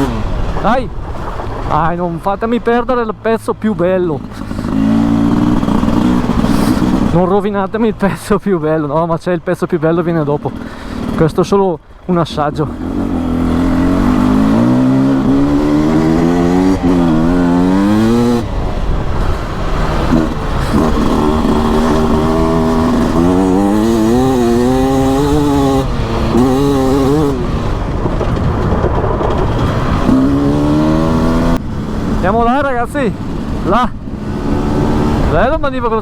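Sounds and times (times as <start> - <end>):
two-stroke motorcycle engine revving: 0.0 - 1.7, 3.7 - 8.0, 10.1 - 11.4, 12.4 - 36.0.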